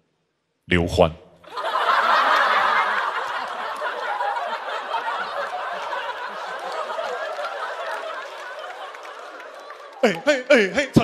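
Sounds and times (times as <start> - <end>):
studio audience laughing: 1.5 - 11.0.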